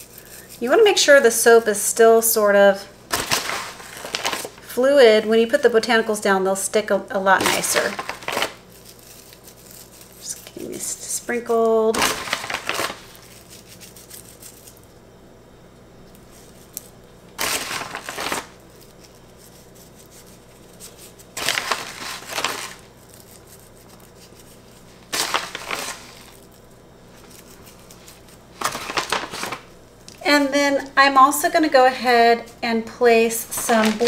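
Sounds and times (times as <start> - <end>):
dried petals crinkling in bag: 0.0 - 6.4, 7.1 - 15.1, 16.1 - 34.0
faint steady hum: 0.0 - 34.0.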